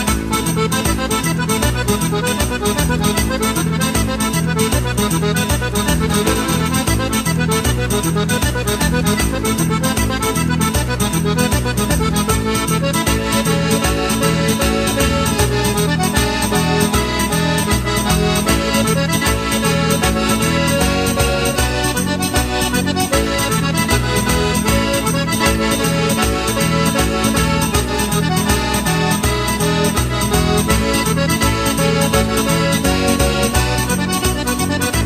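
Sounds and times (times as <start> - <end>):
folk dance music: 0.0 - 35.0.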